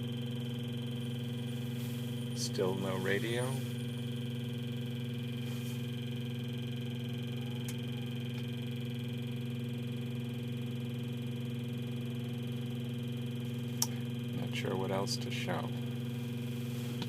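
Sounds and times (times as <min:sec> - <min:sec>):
car radio electrical buzz: 0:00.0 - 0:17.0.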